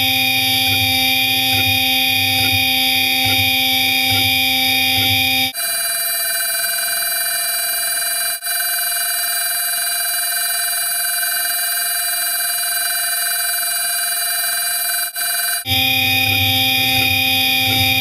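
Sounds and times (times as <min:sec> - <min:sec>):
machine spindle whine: 0:00.0 - 0:18.0.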